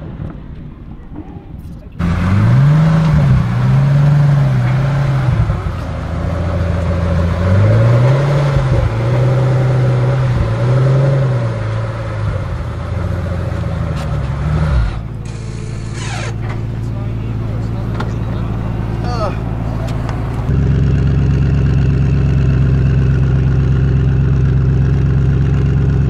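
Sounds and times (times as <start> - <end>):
sports car engine revving: 2.0 - 26.0.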